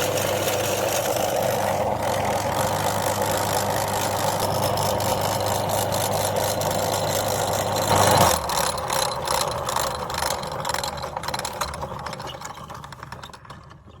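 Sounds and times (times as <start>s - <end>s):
clicks and rattles: 0.0s - 14.0s
electric meat grinder motor: 0.0s - 14.0s.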